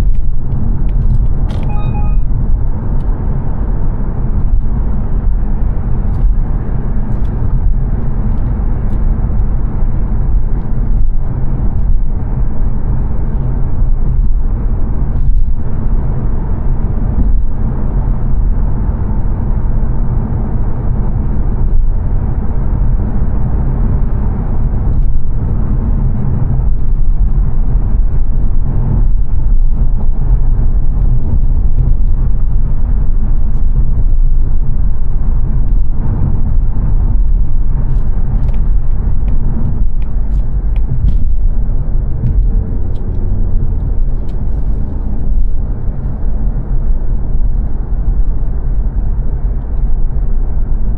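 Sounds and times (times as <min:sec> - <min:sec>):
car cabin road noise: 0:00.0 - 0:50.9.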